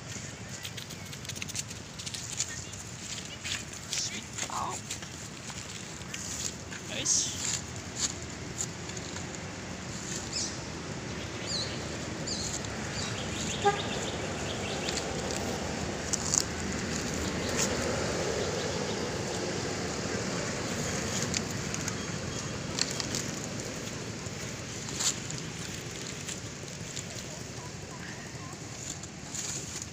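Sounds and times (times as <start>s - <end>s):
steady outdoor hiss: 0.0s - 29.9s.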